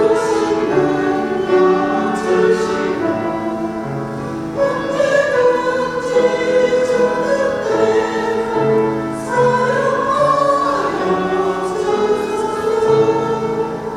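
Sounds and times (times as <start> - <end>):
instrumental accompaniment: 0.0 - 13.9
women's choir singing a hymn: 0.0 - 13.9.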